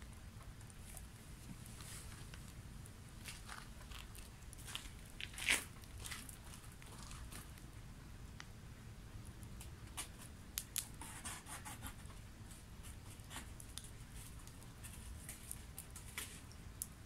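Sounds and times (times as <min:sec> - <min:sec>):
burning wood crackling: 0:00.0 - 0:11.4, 0:12.2 - 0:17.0
low steady rumble: 0:00.0 - 0:17.0.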